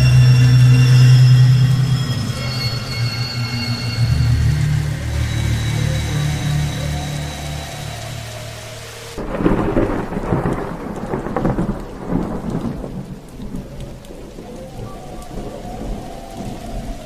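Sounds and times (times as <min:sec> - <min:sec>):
music with sustained tones: 0:00.0 - 0:11.7, 0:13.7 - 0:17.0
steady rain: 0:00.0 - 0:17.0
thunderclap rolling: 0:00.0 - 0:17.0.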